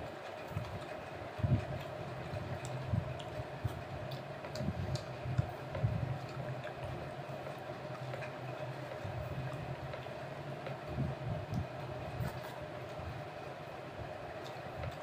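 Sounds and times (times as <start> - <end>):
chewing: 0.0 - 13.3, 14.2 - 15.0
fingers mixing food: 0.0 - 15.0
steady low hum: 0.0 - 15.0.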